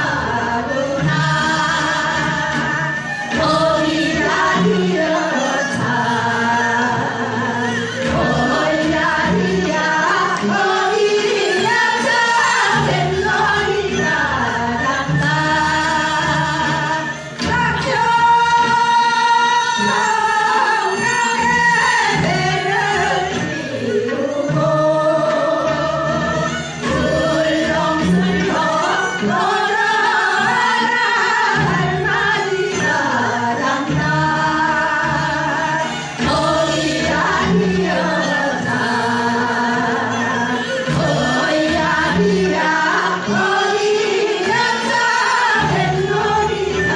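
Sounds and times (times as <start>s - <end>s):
music with singing: 0.0s - 46.9s.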